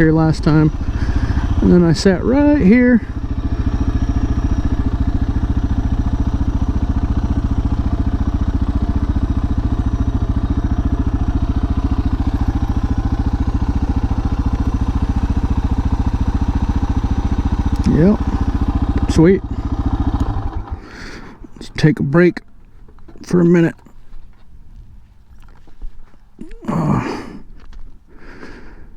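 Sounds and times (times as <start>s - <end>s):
motorcycle engine idling: 0.0s - 28.8s.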